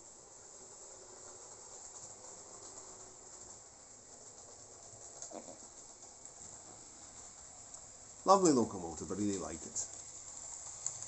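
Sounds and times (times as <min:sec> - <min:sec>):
model train motor whirring: 0:00.0 - 0:11.0.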